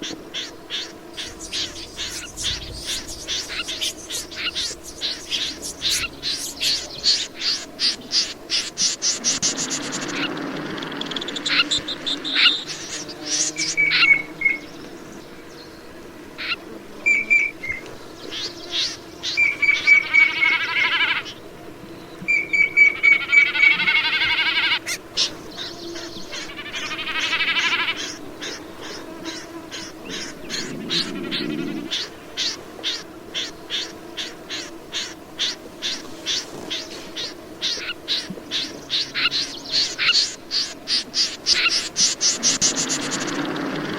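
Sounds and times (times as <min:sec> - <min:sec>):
bird buzzy rattling trills: 0:00.0 - 0:15.8, 0:16.4 - 0:21.5, 0:22.3 - 0:43.9.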